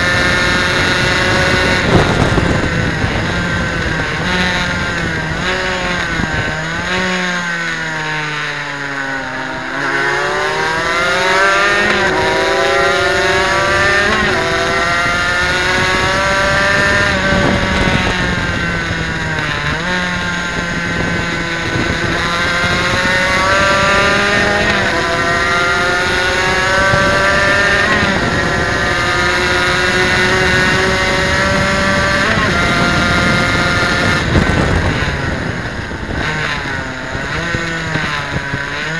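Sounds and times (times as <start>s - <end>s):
racing motorcycle engine revving: 0.0s - 38.9s.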